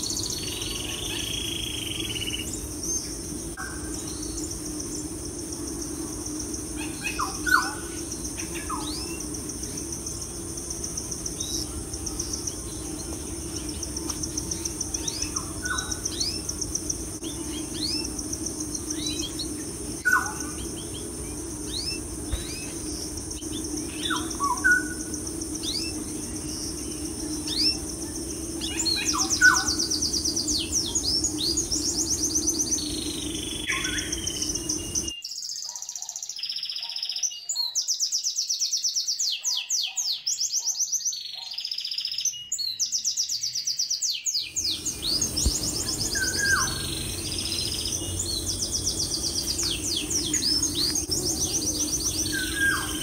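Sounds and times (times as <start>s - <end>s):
steady low hum: 0.0s - 35.1s, 44.5s - 53.0s
small birds chirping: 0.0s - 53.0s.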